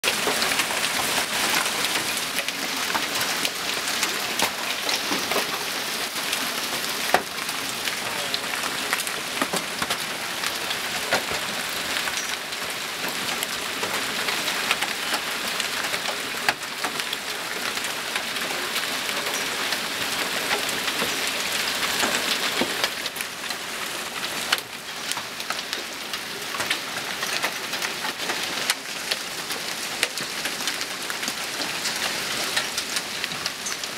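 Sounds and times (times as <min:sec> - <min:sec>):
hail pelting down: 0:00.0 - 0:33.9
hailstones cracking on hard surfaces: 0:00.0 - 0:33.9.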